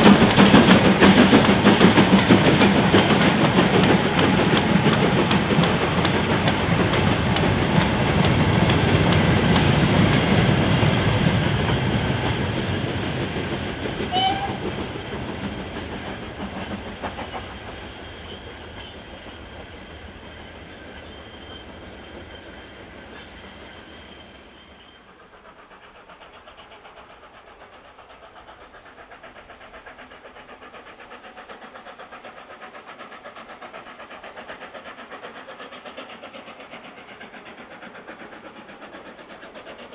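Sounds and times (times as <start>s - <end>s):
steam train passing: 0.0s - 39.9s.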